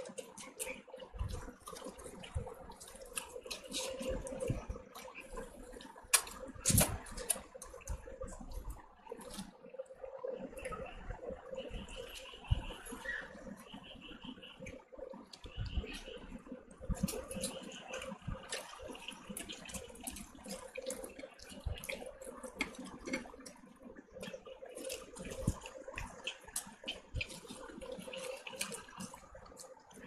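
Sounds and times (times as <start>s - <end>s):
fingers squelching in gravy: 0.0s - 9.6s, 14.1s - 30.0s
wet chewing and lip-smacking: 0.0s - 13.7s, 14.6s - 30.0s.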